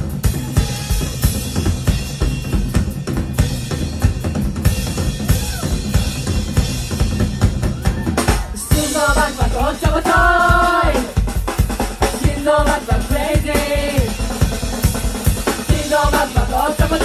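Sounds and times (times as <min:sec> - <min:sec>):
drum kit fast beat: 0:00.0 - 0:17.0
live band playing: 0:00.0 - 0:17.0.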